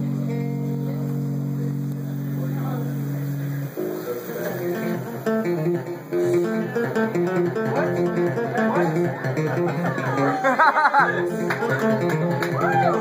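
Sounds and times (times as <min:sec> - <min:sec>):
electric bass playing: 0:00.0 - 0:13.0.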